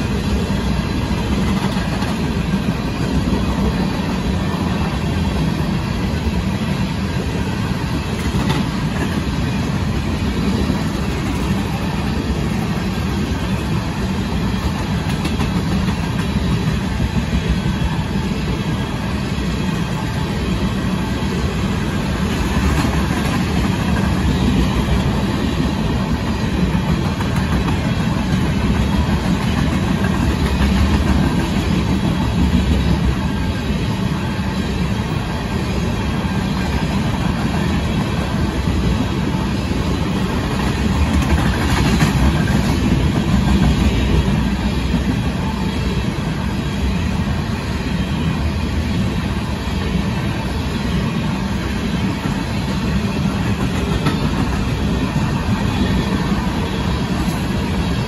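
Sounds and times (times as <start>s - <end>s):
wheels clacking at rail joints: 0.0s - 45.9s, 51.0s - 58.0s
train wheels rumbling on rail: 0.0s - 58.0s.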